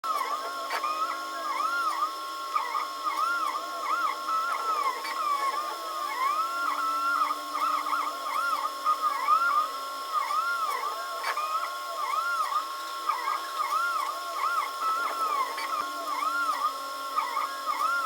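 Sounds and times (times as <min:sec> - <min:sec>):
stepper motors whining: 0:00.1 - 0:18.0.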